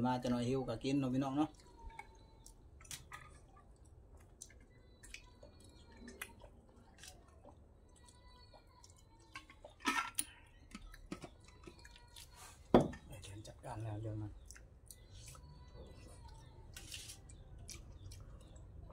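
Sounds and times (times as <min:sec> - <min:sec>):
wet chewing: 0:01.5 - 0:12.7, 0:14.3 - 0:18.9.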